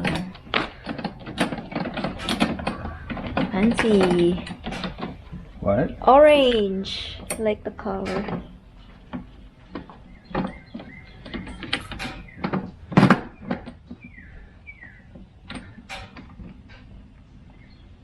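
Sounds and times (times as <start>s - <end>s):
knocks and clicks of handling: 0.0s - 5.6s, 6.4s - 17.6s.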